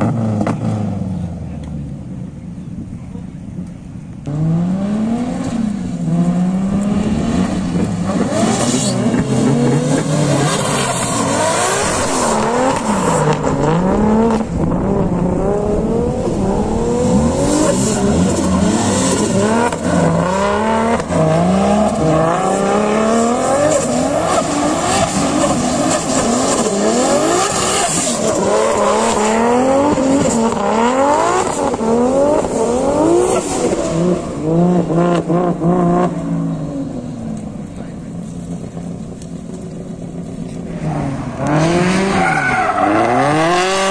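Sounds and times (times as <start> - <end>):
car engine revving hard: 4.3 - 37.1, 40.6 - 43.9.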